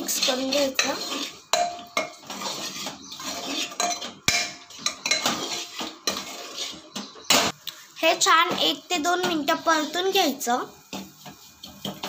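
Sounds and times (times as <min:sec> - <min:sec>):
metal spoon scraping a pot: 0:00.0 - 0:07.6, 0:09.2 - 0:12.0.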